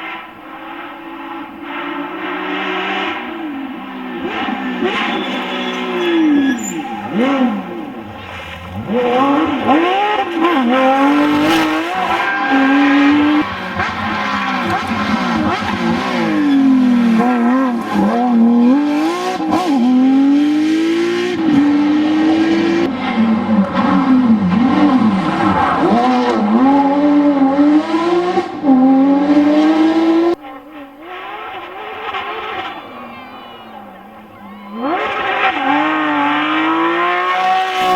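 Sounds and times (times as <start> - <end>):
race car engine at high revs: 0.0 - 37.9.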